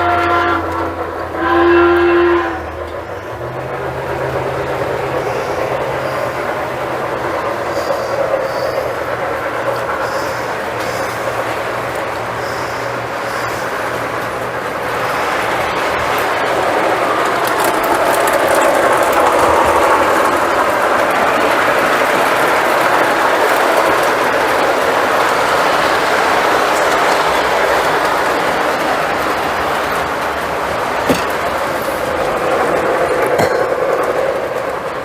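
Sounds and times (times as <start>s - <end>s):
model train rolling on track: 0.0s - 35.0s.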